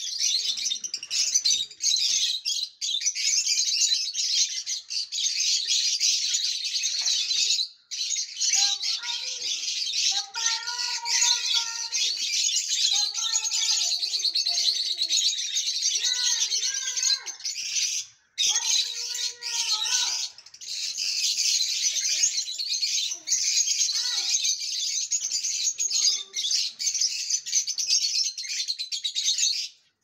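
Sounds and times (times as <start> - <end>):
lovebirds chirping and tweeting: 0.0 - 30.0.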